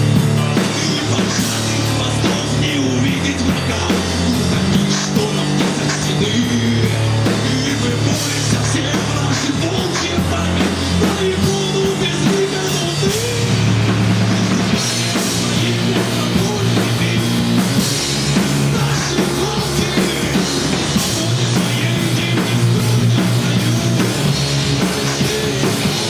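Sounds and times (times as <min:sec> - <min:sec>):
low bass notes: 0:00.0 - 0:26.0
rock band playing live: 0:00.0 - 0:26.0.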